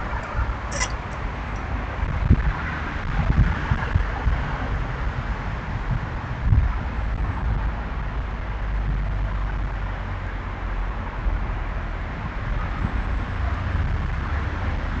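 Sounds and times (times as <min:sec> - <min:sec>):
outdoor background rumble and hiss: 0:00.0 - 0:15.0.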